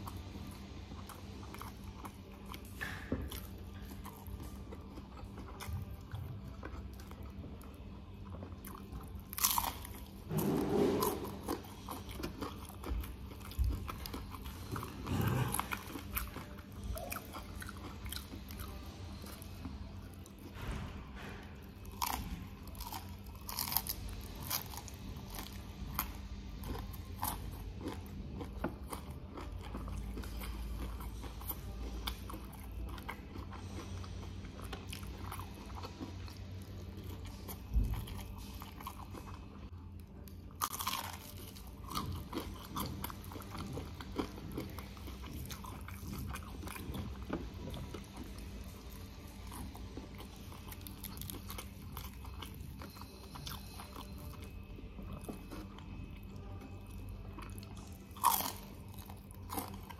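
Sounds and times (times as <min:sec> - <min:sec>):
biting and crunchy chewing: 0:00.0 - 0:59.9.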